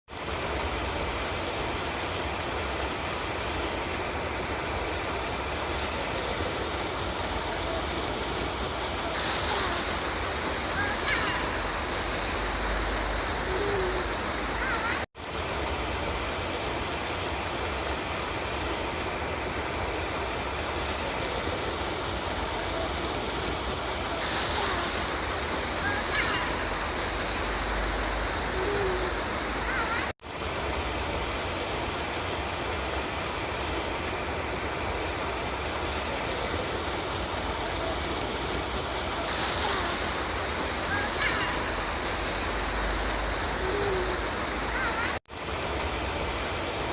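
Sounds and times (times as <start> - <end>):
river water rushing: 0.1 - 46.9.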